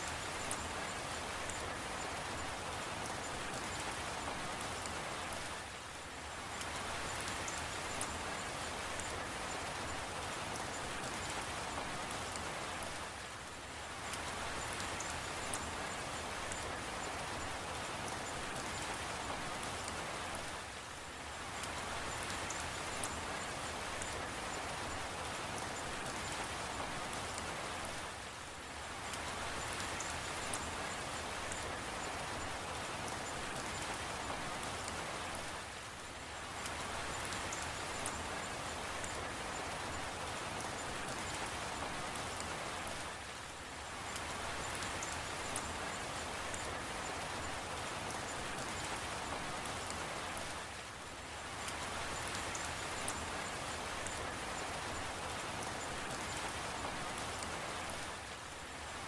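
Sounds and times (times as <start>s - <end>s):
raindrop ticks: 0.0s - 5.6s, 6.5s - 13.2s, 14.0s - 20.6s, 21.4s - 28.1s, 29.0s - 35.6s, 36.4s - 43.4s, 44.0s - 58.1s
steady rain falling: 0.0s - 59.0s.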